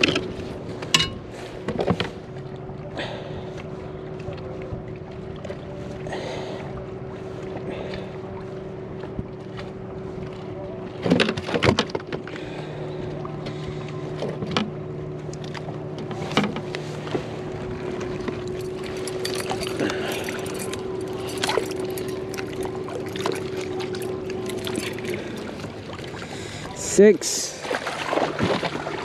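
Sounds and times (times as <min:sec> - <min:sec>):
water lapping on hull: 0:00.0 - 0:29.0.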